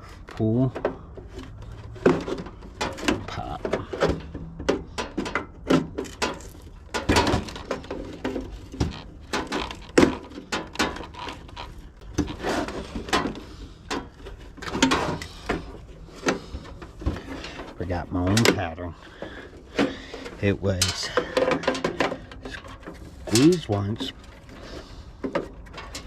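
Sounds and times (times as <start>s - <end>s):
handling rattles: 0.0s - 26.0s.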